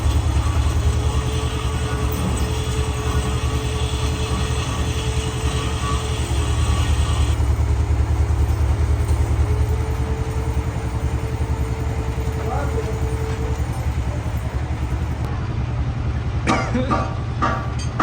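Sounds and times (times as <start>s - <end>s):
heavy machinery throbbing: 0.0s - 15.3s.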